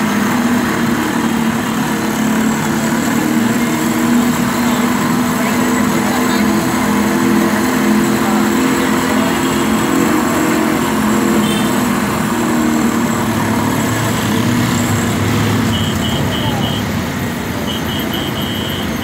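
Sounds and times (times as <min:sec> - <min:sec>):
cotton candy machine humming: 0:00.0 - 0:19.0.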